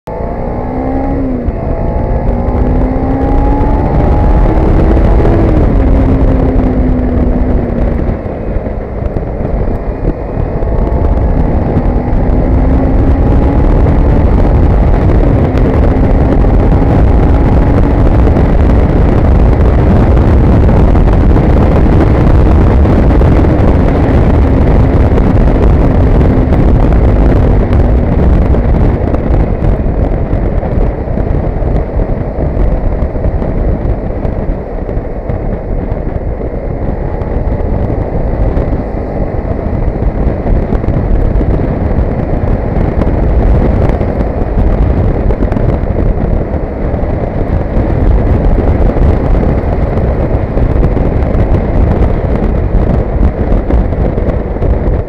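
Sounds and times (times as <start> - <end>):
motorcycle engine shifting gears: 0.0 - 55.0
wind rush on microphone: 0.0 - 55.0.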